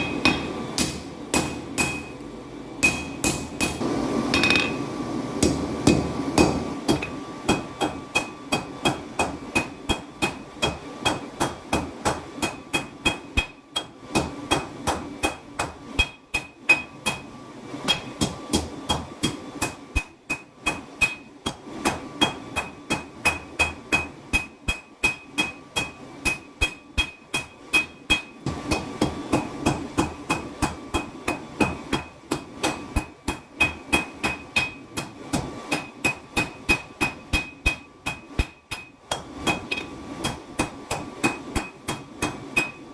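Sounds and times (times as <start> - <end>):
hammer striking steel on anvil: 0.0 - 2.2, 2.8 - 4.8, 5.4 - 17.3, 17.9 - 42.8.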